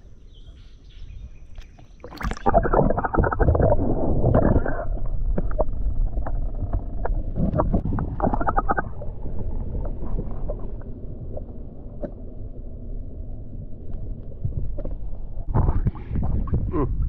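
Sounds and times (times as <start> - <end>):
muffled underwater rumble: 1.1 - 17.0.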